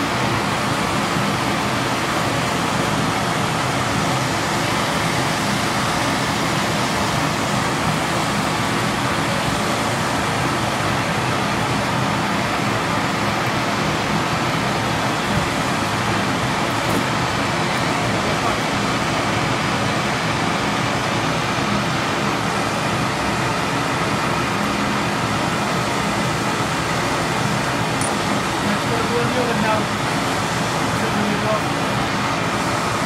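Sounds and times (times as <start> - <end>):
torch flame hissing: 0.0 - 33.0.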